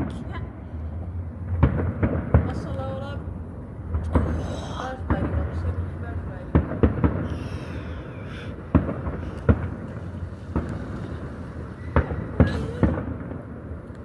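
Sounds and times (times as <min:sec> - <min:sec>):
distant fireworks bangs: 0:00.0 - 0:14.0.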